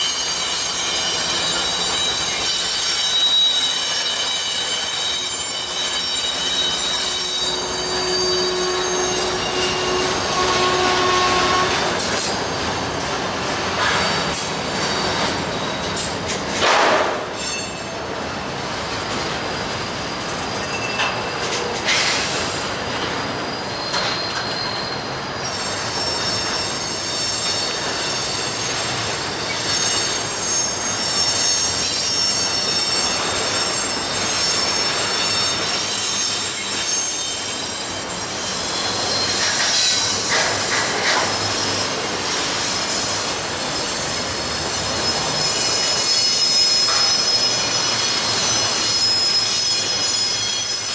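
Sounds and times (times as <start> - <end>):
train rumble: 0.0 - 50.9
train wheels squealing on rails: 0.0 - 50.9.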